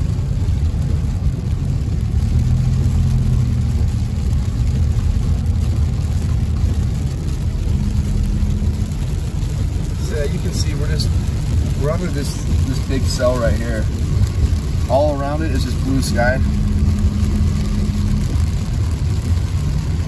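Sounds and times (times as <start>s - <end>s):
car engine and tyres rumble: 0.0s - 20.0s
rain hissing on car: 0.0s - 20.0s.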